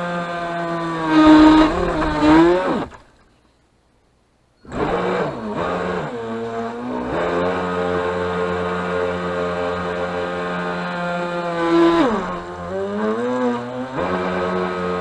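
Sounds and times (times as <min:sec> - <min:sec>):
toy boat motor whining: 0:00.0 - 0:03.0, 0:04.6 - 0:15.0.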